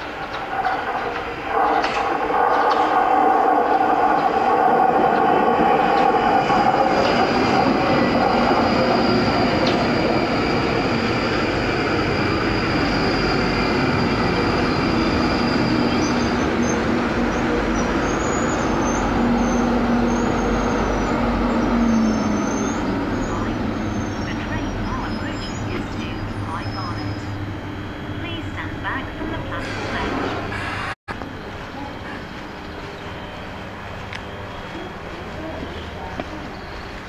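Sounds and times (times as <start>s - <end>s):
train rail rumble: 0.0s - 37.0s.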